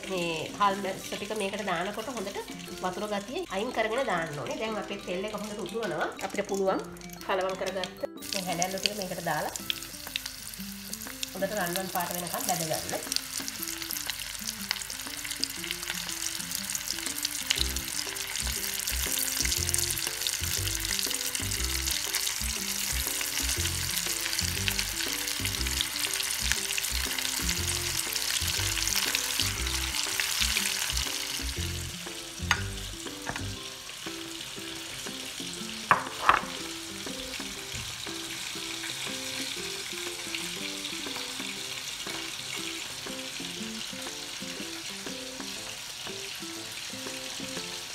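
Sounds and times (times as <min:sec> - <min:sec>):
background music: 0:00.0 - 0:47.9
fish deep-frying in hot oil: 0:00.0 - 0:47.9.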